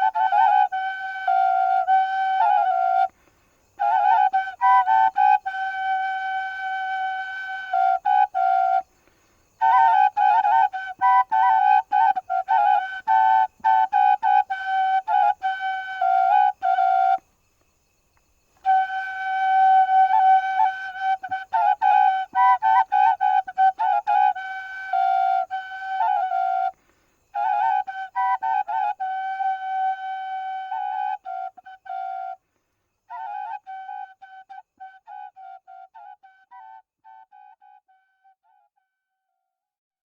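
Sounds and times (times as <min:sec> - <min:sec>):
flute playing held notes and trills: 0:00.0 - 0:09.0, 0:09.6 - 0:17.2, 0:18.6 - 0:32.4, 0:33.1 - 0:38.7.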